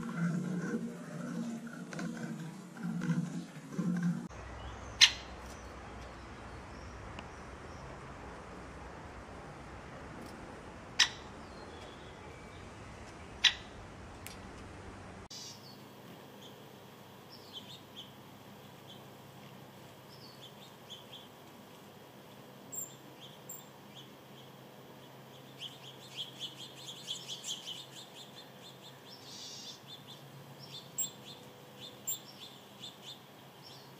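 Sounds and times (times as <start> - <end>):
small birds chirping: 0.0 - 8.0, 11.0 - 14.4, 15.3 - 33.9.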